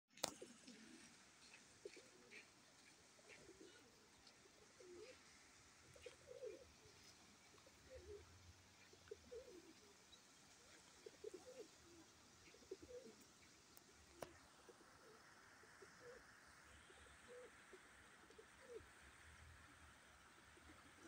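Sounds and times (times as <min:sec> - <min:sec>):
faint pigeon cooing: 0:00.2 - 0:21.0.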